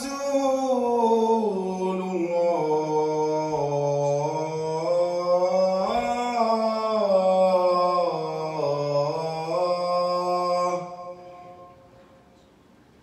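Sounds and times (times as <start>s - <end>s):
man chanting call to prayer: 0.0s - 11.9s.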